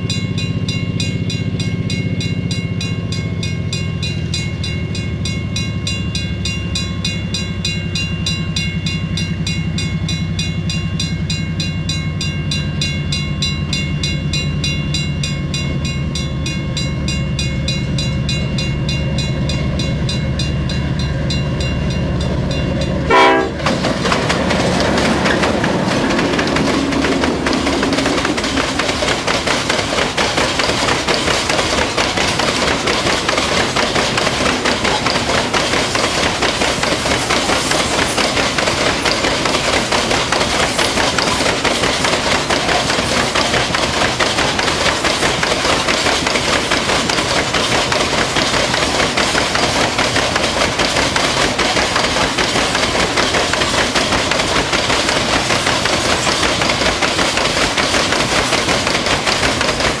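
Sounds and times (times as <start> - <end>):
train wheels clattering on track: 0.0 - 60.0.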